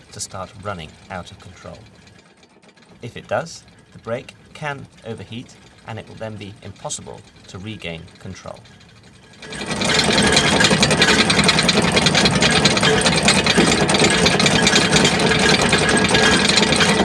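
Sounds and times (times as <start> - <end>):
anchor chain rattling: 0.0 - 17.0.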